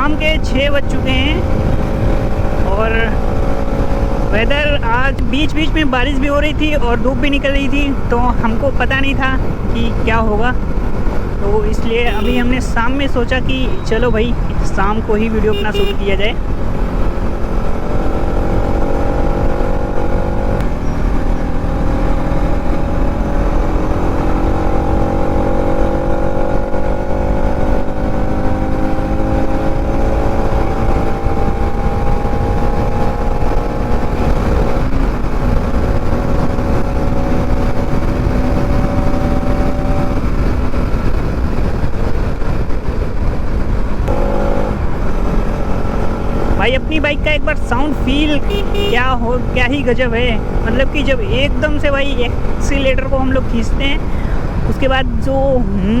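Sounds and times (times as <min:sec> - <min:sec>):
wind rush over microphone: 0:00.0 - 0:15.6, 0:16.3 - 0:56.0.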